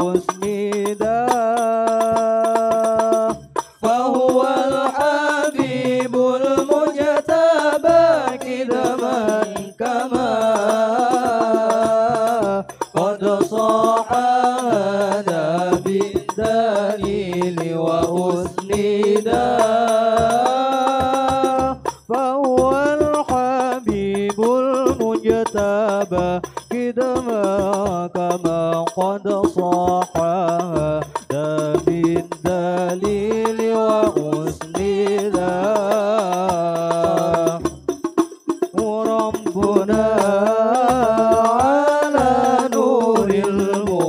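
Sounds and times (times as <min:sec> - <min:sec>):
man singing into a microphone: 0:00.0 - 0:37.8, 0:38.7 - 0:44.0
frame drums beating: 0:00.0 - 0:44.0.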